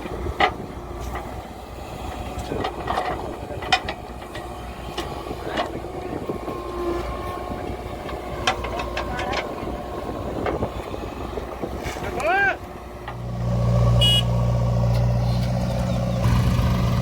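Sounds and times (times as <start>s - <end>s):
diesel machinery running: 0.0s - 17.0s.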